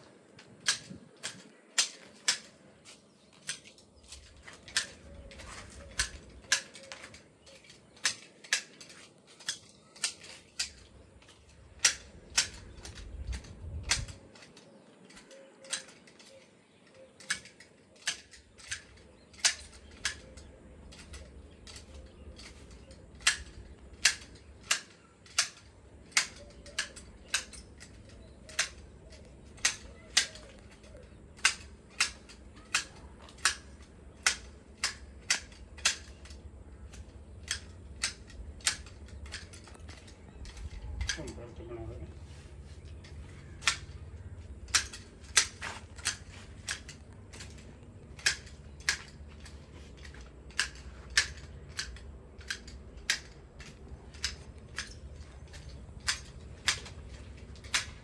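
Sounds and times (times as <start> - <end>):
pruning shears snipping: 0.3 - 58.0.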